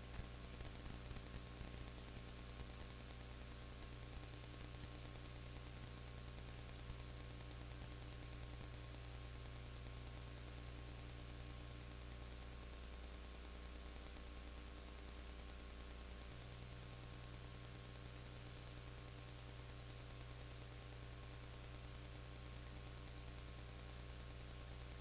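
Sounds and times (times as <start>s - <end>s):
electrical mains hum: 0.0s - 25.0s
hiss and static: 0.0s - 25.0s.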